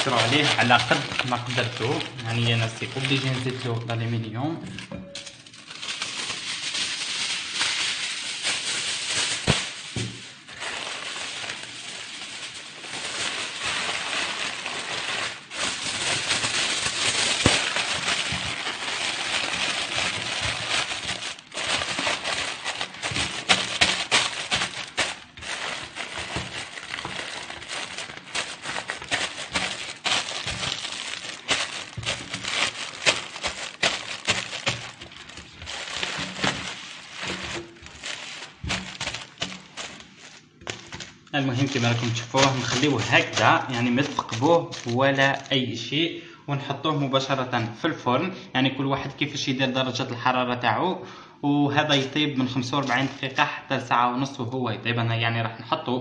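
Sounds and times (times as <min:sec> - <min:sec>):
aluminium foil crinkling: 0:00.0 - 0:45.8, 0:52.0 - 0:53.4.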